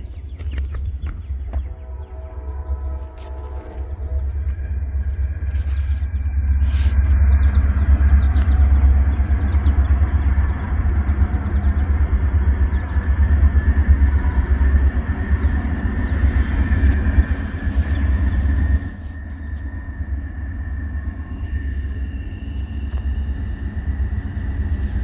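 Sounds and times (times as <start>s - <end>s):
diesel locomotive rumble: 0.0s - 25.0s.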